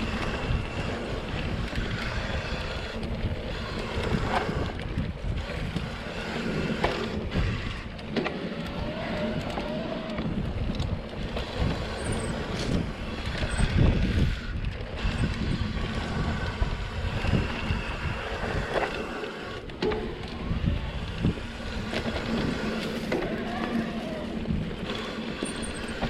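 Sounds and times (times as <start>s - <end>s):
bike rattling over bumps: 0.0s - 26.0s
tyres rumbling over dirt: 0.0s - 26.0s
wind buffeting microphone: 0.0s - 26.0s.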